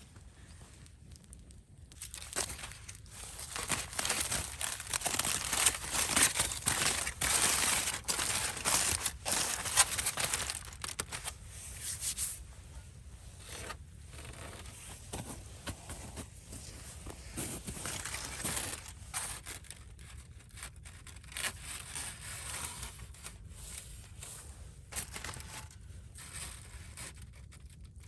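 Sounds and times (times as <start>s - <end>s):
material rustling and crinkling: 0.0s - 28.0s.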